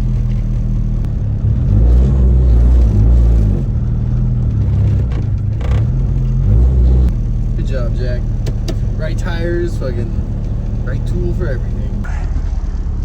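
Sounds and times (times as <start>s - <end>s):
car engine revving low: 0.0s - 13.0s.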